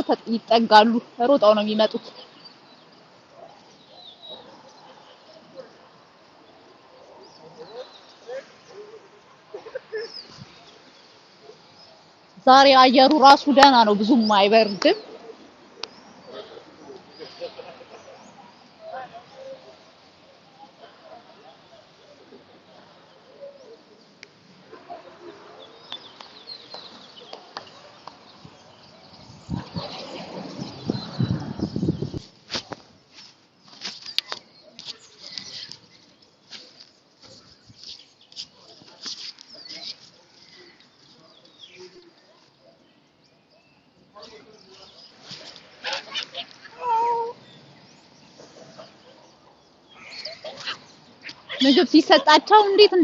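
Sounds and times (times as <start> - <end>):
birds chirping: 0.0 - 32.3, 32.9 - 53.0.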